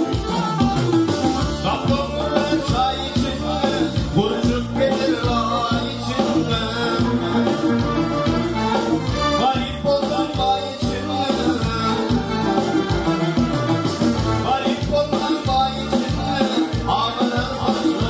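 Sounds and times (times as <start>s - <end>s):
drum machine rhythm: 0.0s - 18.0s
keyboard melody: 0.0s - 18.0s
man singing into microphone: 1.4s - 13.0s, 14.4s - 18.0s.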